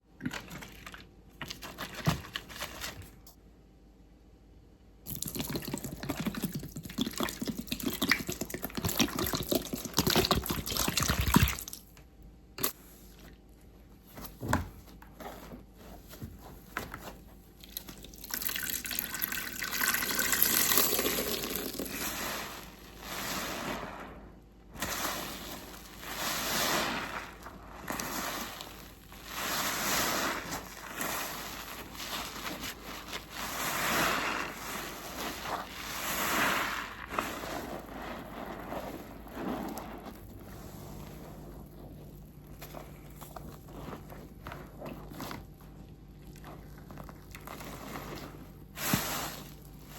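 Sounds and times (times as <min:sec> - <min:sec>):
soapy sponge squelching: 0:00.1 - 0:03.2, 0:05.1 - 0:11.9, 0:15.3 - 0:49.9.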